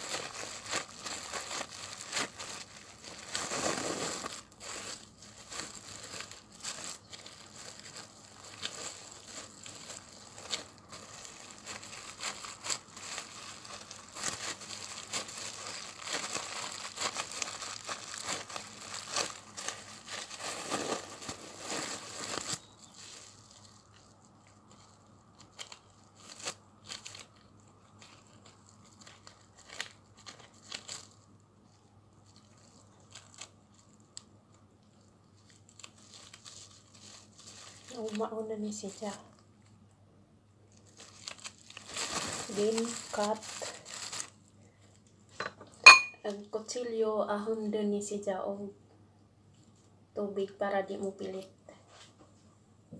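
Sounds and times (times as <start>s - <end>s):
plastic cling film crinkling: 0.0s - 39.8s, 40.7s - 47.0s.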